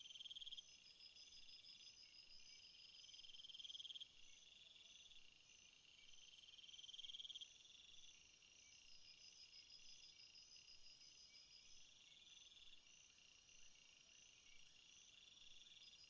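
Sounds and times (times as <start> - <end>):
faint chorus of trilling insects: 0.0 - 16.0.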